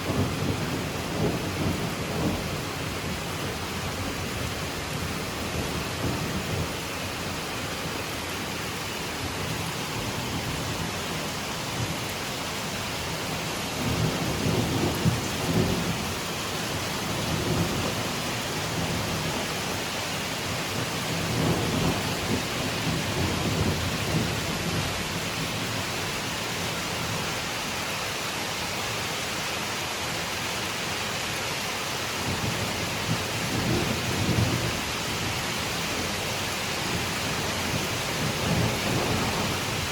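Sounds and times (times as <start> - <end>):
steady rain on foliage: 0.0 - 39.9.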